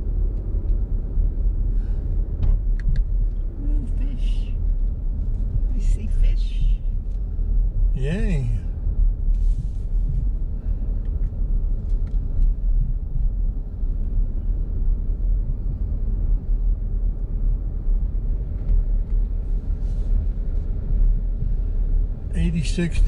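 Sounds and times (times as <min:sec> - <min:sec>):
car road rumble from inside: 0:00.0 - 0:23.0.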